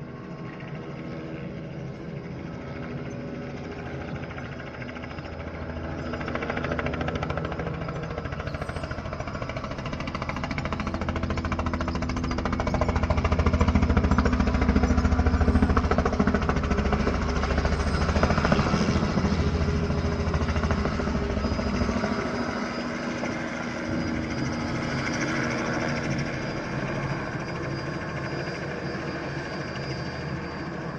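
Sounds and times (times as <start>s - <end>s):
helicopter rotor chop: 0.0s - 30.9s
high turbine whine: 0.0s - 30.9s.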